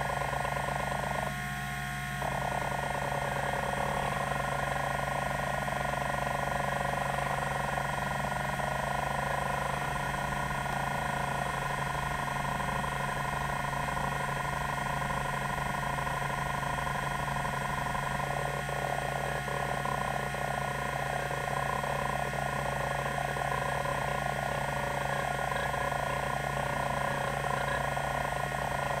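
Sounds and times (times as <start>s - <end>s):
hard drive actuator buzzing: 0.0s - 29.0s
hard drive spindle hum: 0.0s - 29.0s.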